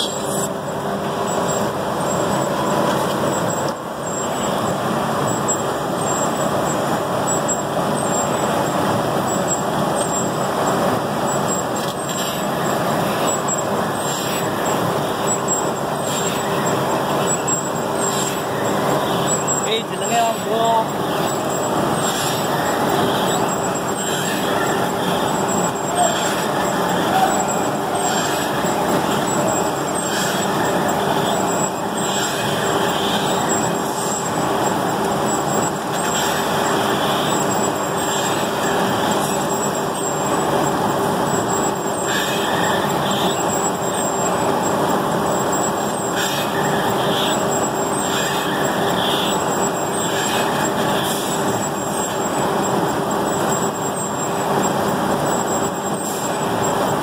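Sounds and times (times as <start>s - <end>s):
constant hum: 0.0s - 57.0s
industrial machinery running: 0.0s - 57.0s.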